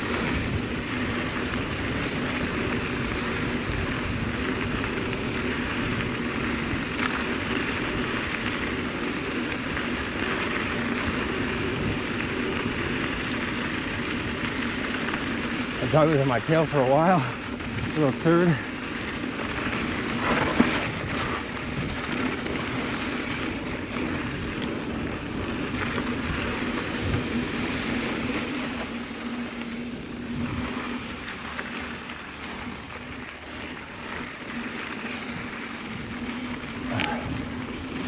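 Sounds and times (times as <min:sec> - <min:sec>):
wind buffeting microphone: 0:00.0 - 0:31.5
bike tyres on dirt trail: 0:00.0 - 0:38.0.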